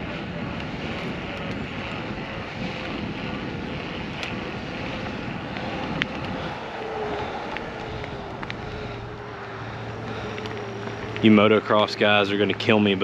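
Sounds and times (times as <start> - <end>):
wind on microphone: 0.0 - 12.2
electric bike motor whining: 0.0 - 13.0.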